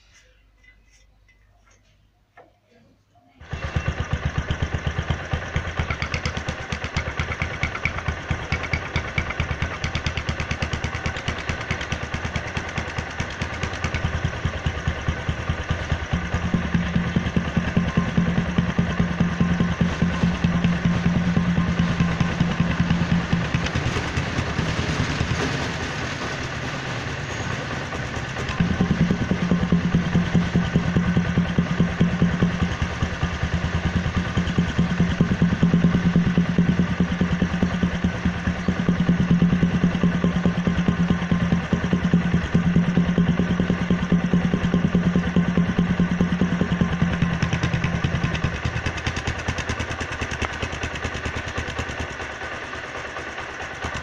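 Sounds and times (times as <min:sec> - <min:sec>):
motorcycle engine idling: 0:03.4 - 0:54.0.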